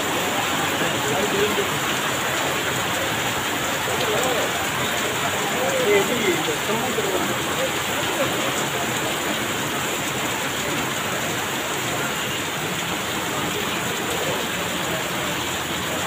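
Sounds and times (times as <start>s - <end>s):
torrential rain on paving: 0.0s - 16.0s.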